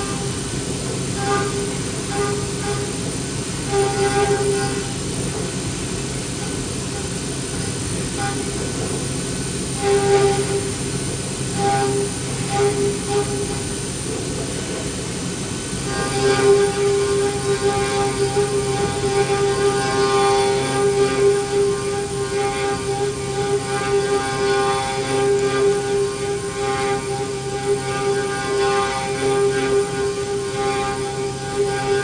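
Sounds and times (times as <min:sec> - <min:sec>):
milling machine running: 0:00.0 - 0:32.0.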